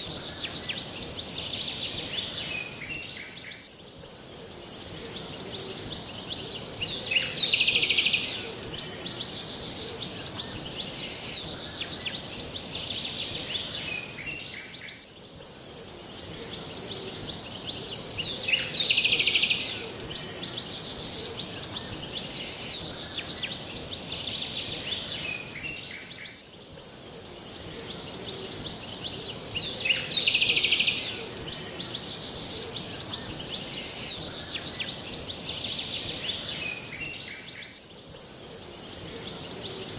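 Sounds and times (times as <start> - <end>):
high outdoor hiss: 0.0 - 39.9.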